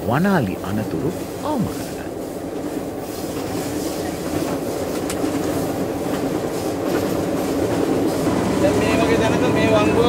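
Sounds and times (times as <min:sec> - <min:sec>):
locomotive engine running: 0:00.0 - 0:10.0.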